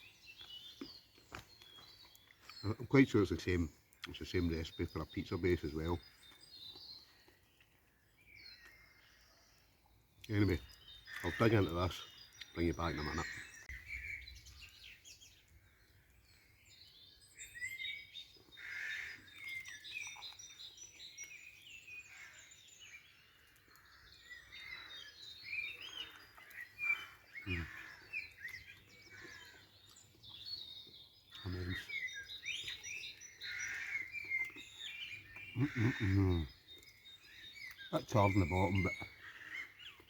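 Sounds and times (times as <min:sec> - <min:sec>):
small birds singing and chirping: 0:00.0 - 0:40.0.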